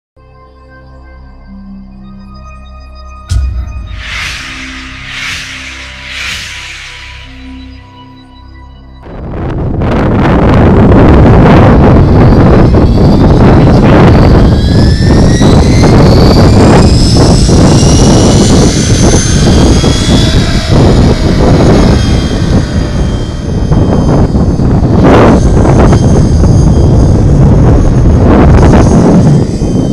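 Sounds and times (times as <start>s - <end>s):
wind on microphone: 3.3s - 8.3s, 9.0s - 29.9s
electric motor whine rising: 3.3s - 8.6s, 9.3s - 29.9s.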